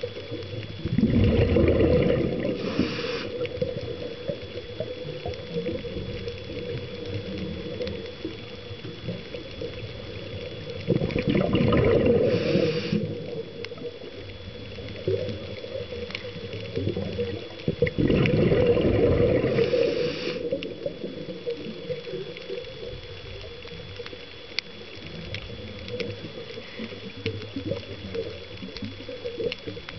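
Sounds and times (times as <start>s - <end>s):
faint crackle: 0.0s - 29.9s
steady high whine: 0.0s - 29.9s
underwater regulator bubbling: 0.0s - 29.9s.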